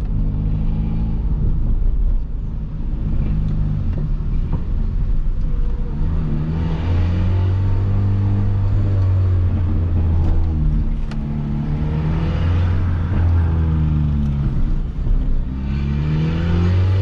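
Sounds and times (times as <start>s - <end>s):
raspy car exhaust accelerating: 0.0s - 17.0s.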